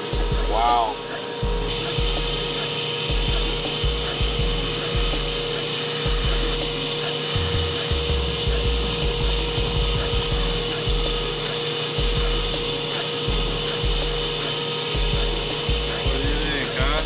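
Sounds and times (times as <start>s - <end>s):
bench buffer humming: 0.0s - 17.0s.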